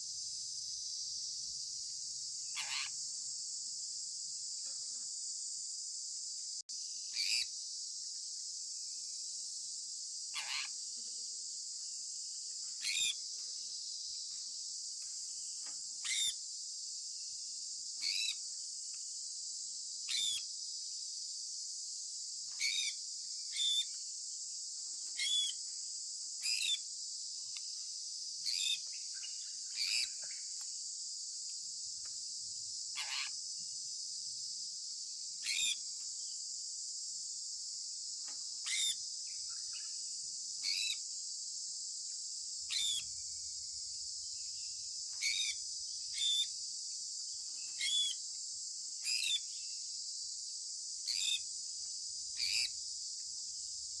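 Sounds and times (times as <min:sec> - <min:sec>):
steady high-pitched hiss: 0:00.0 - 0:54.0.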